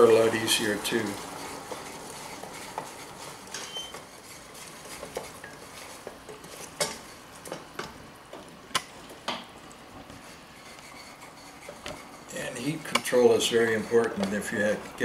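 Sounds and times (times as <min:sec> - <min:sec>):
wooden spatula scraping saucepan: 0:00.0 - 0:07.7, 0:10.1 - 0:15.0.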